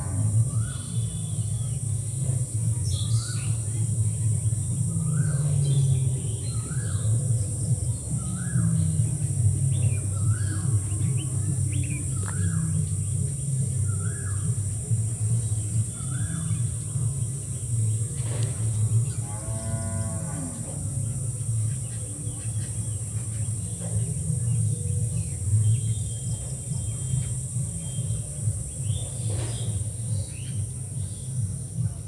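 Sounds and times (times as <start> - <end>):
low rumble: 3.5 - 32.0.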